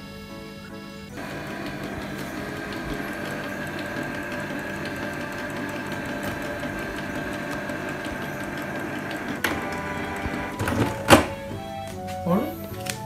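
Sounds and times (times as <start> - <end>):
inkjet printer whirring: 0.0 - 11.9.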